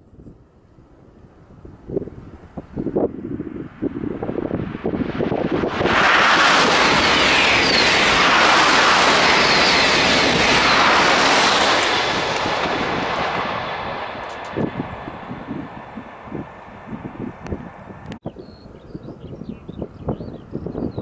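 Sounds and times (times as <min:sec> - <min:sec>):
high-speed train passing: 0:00.1 - 0:18.2.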